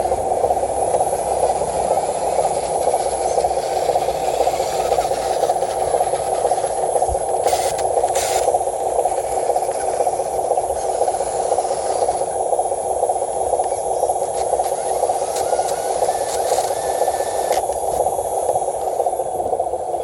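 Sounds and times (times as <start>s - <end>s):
small electric motor whirring: 0.3s - 12.6s, 13.4s - 19.2s.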